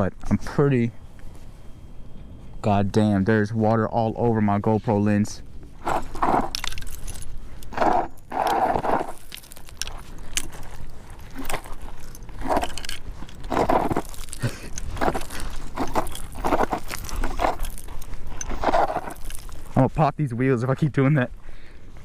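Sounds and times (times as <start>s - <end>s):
tyres crunching over gravel: 2.6s - 21.3s.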